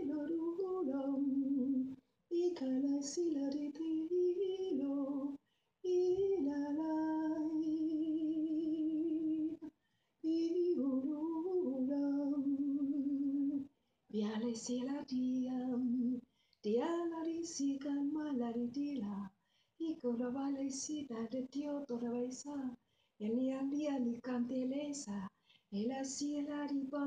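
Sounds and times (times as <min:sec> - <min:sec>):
woman singing unaccompanied: 0:00.0 - 0:27.0.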